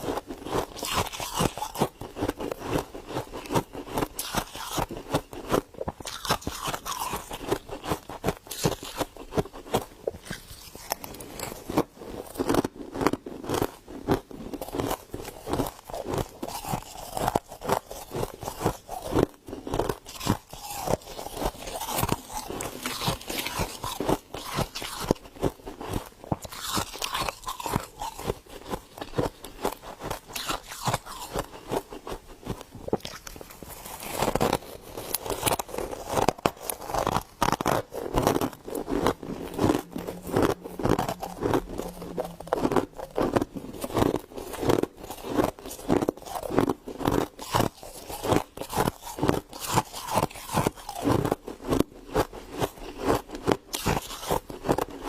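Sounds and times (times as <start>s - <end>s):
crisp crunching bites: 0.0s - 55.0s.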